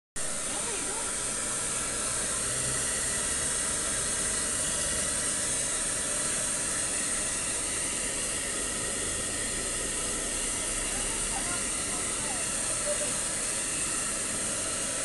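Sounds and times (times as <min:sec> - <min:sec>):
hair dryer blowing: 0:00.2 - 0:15.0.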